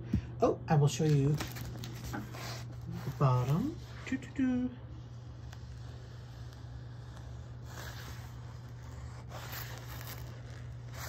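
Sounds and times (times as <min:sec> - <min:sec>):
steady low hum: 0:00.0 - 0:11.0
plastic film rustling: 0:01.0 - 0:04.1, 0:05.2 - 0:11.0.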